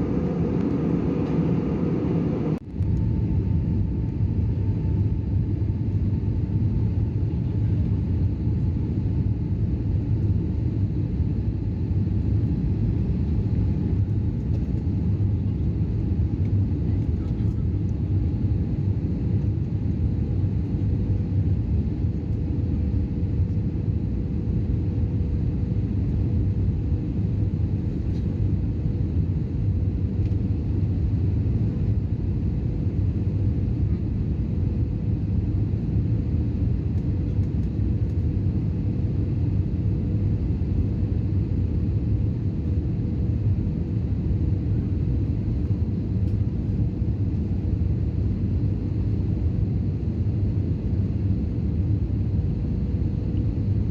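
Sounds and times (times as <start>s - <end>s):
aircraft cabin engine rumble: 0.0s - 53.9s
faint steady hum: 0.0s - 53.9s.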